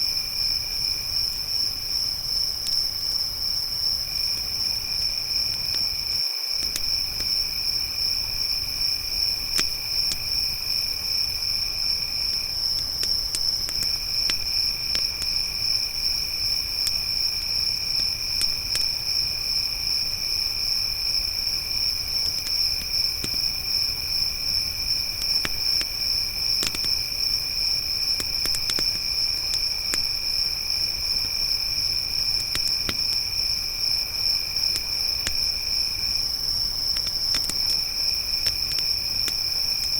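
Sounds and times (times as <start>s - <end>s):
crickets trilling high: 0.0s - 39.9s
faint campfire crackles: 0.0s - 39.9s
lower insect trill: 0.0s - 39.9s.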